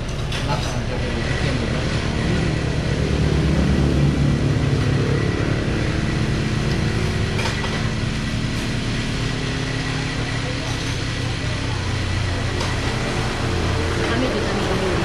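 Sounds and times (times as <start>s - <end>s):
vehicle engine running: 0.0s - 15.0s
road and wind noise: 0.9s - 15.0s.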